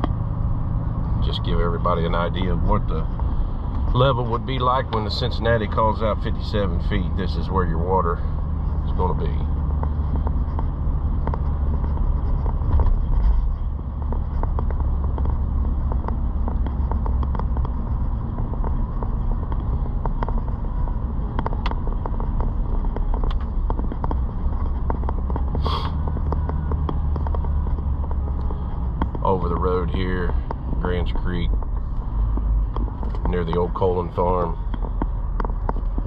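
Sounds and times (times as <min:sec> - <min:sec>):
car road and engine rumble: 0:00.0 - 0:36.0
small rattles and clicks: 0:01.0 - 0:36.0.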